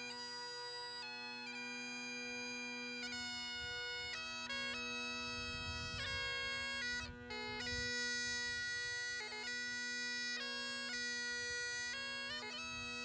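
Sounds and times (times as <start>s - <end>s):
bagpipes playing slow tune: 0.0s - 13.0s.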